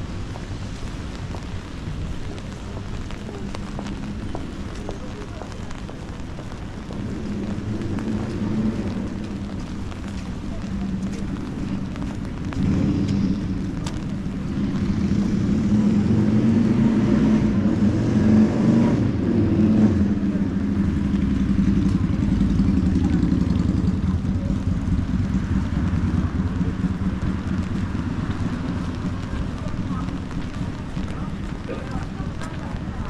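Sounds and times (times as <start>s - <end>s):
traffic on wet street: 0.0s - 33.0s.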